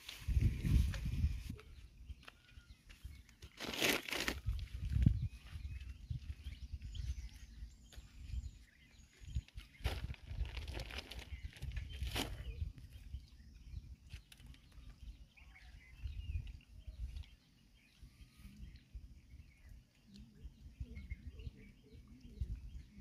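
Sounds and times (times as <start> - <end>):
wind rumble on microphone: 0.0 - 3.5, 4.2 - 23.0
faint bird chirps: 0.0 - 23.0.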